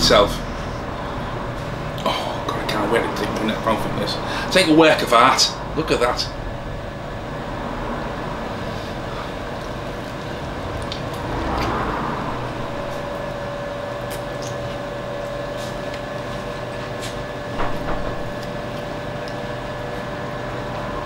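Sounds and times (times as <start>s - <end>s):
mechanical room hum: 0.0s - 21.0s.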